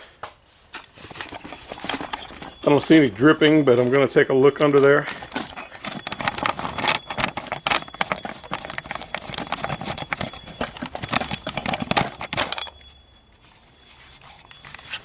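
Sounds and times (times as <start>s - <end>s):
handling clatter: 0.7s - 15.0s.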